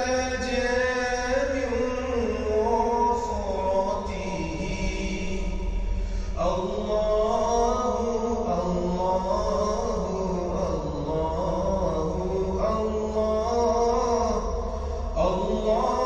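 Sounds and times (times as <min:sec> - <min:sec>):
chant-like voice singing: 0:00.0 - 0:05.8, 0:06.4 - 0:16.0.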